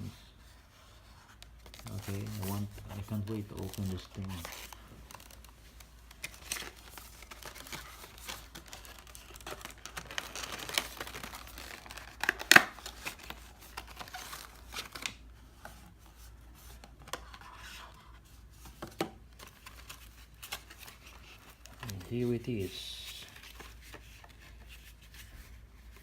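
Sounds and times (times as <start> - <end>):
packaging rustling and tearing: 1.3 - 26.0.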